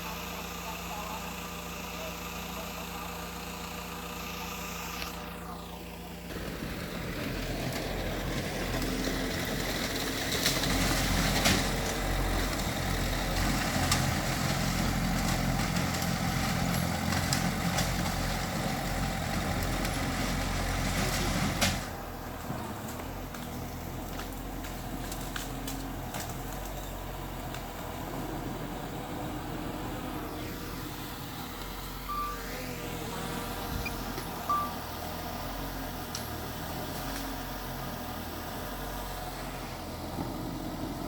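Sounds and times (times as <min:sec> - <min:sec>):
bulldozer diesel engine: 0:00.0 - 0:41.0.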